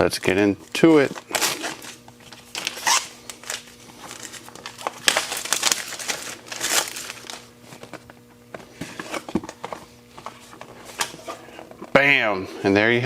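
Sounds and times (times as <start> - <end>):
packaging crinkling and rustling: 0.9 - 11.6.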